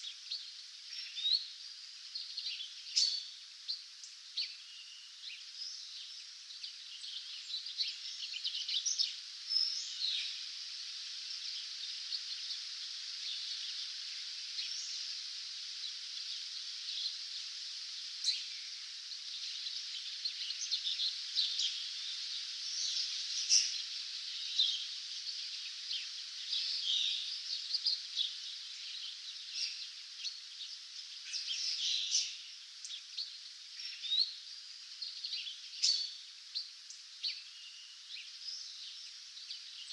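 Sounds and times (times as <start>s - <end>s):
songbirds dawn chorus: 0.0s - 39.9s.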